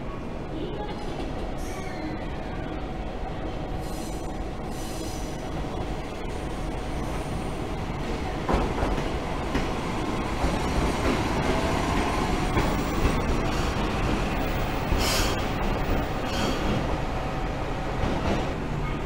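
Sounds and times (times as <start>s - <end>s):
diesel railcar engine: 0.0s - 19.0s
wheel and rail noise: 0.2s - 19.0s.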